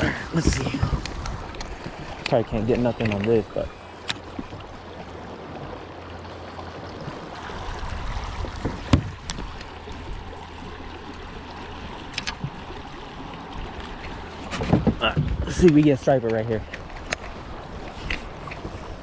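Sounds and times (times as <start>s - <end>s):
river water running: 0.0s - 19.0s.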